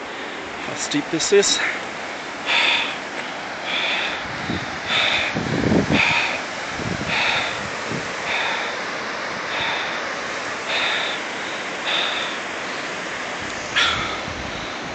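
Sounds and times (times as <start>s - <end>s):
whitewater rapids rushing: 0.0s - 14.9s
heavy breathing: 1.5s - 13.0s, 13.6s - 14.9s.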